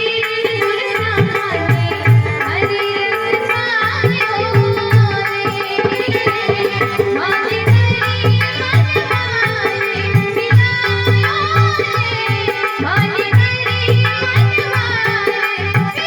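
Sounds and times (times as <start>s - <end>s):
devotional melody: 0.0s - 16.0s
tabla rhythm: 0.0s - 16.0s.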